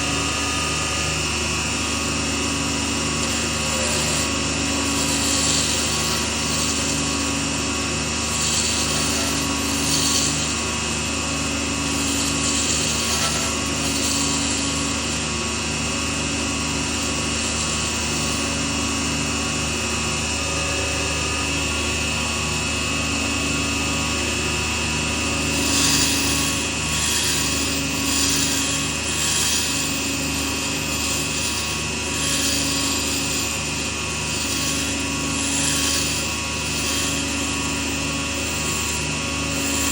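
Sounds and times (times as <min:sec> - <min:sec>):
small lathe running: 0:00.0 - 0:39.9
tool scraping spinning wood: 0:00.0 - 0:39.9.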